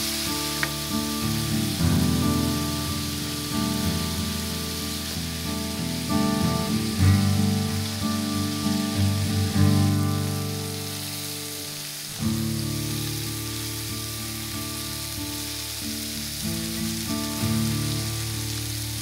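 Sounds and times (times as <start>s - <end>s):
meat sizzling in butter: 0.0s - 19.0s.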